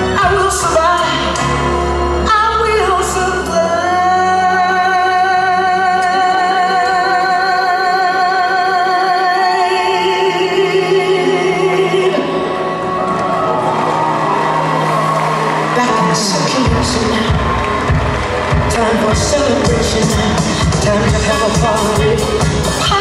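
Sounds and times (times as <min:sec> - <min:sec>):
person singing: 0:00.0 - 0:13.0, 0:15.6 - 0:23.0
musical accompaniment: 0:00.0 - 0:23.0.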